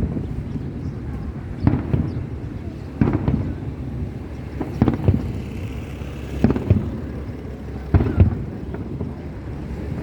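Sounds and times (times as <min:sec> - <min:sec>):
fireworks shells booming: 0:00.0 - 0:10.0.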